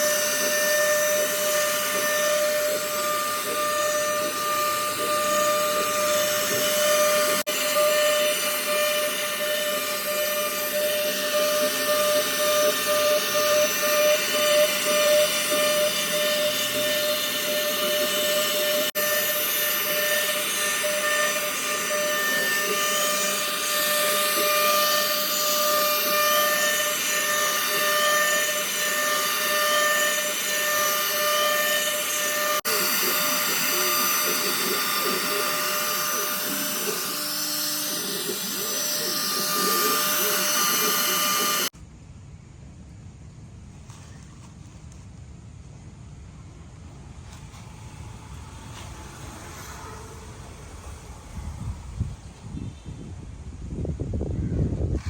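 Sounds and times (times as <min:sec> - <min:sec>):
router spindle cutting wood: 0:00.0 - 0:41.8, 0:47.3 - 0:53.1.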